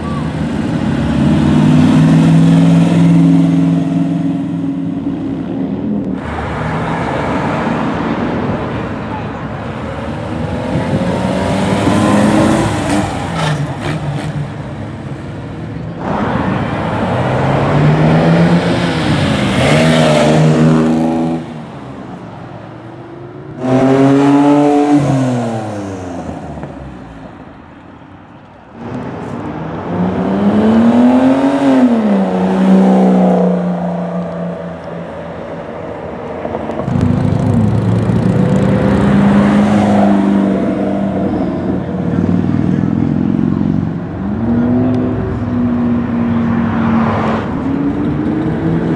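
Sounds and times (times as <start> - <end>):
cars accelerating: 0.0 - 27.5, 28.6 - 48.9.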